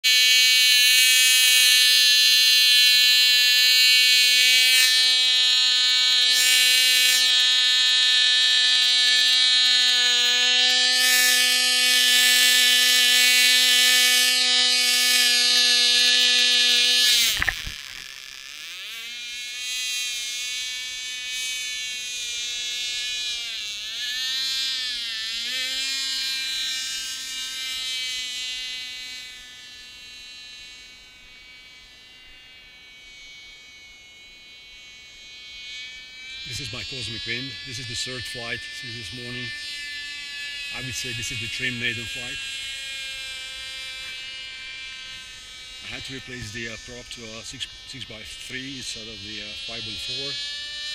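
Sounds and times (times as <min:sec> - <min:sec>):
model plane engine buzzing: 0:00.0 - 0:50.9.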